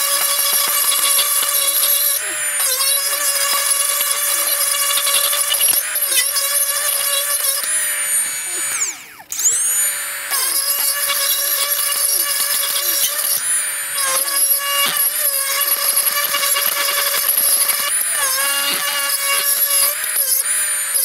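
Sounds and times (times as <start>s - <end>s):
die grinder grinding metal: 0.0s - 21.0s.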